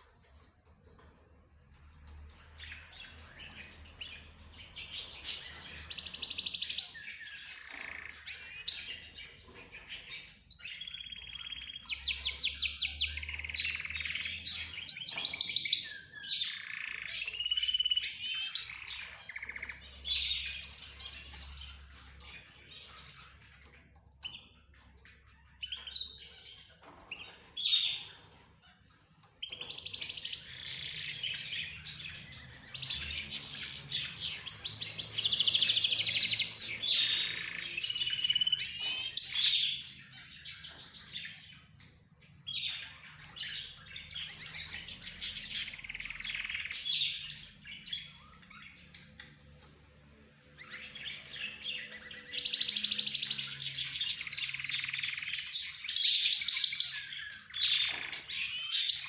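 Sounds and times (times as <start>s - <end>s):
caged birds chirping and trilling: 0.0s - 59.0s.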